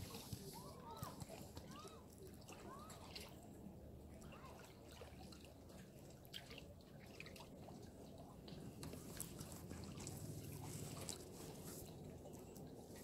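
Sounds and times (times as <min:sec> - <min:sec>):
water lapping and dripping: 0:00.0 - 0:13.0.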